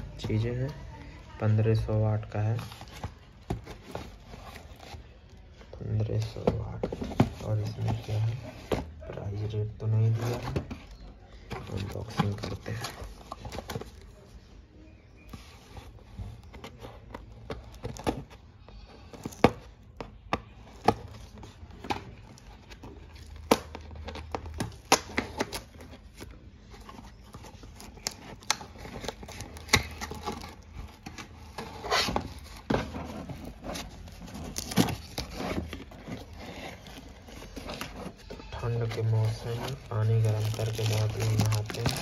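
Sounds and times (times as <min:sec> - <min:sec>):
cardboard crinkling: 0:00.0 - 0:42.0.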